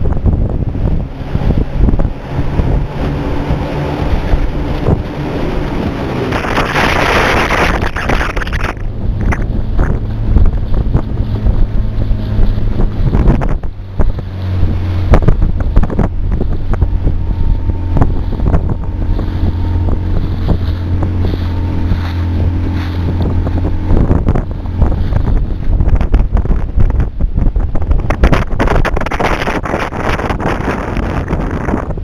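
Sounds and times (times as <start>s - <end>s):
outboard motor running: 0.0s - 32.0s
water splashing along hull: 0.0s - 32.0s
wind buffeting microphone: 0.0s - 32.0s.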